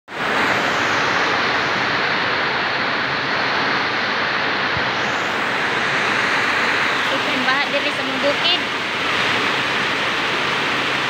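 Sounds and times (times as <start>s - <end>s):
floodwater rushing: 0.1s - 11.0s
heavy rain pouring: 0.1s - 11.0s.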